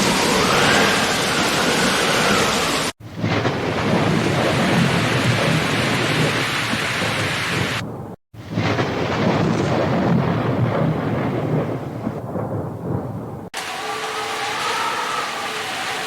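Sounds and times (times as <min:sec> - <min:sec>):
low rumble of thunder: 0:00.0 - 0:13.5
heavy rain: 0:00.0 - 0:16.0.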